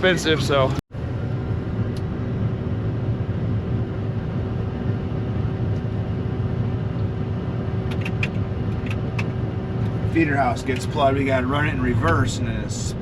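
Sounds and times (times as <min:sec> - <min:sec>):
combine harvester rumble: 0:00.0 - 0:13.0.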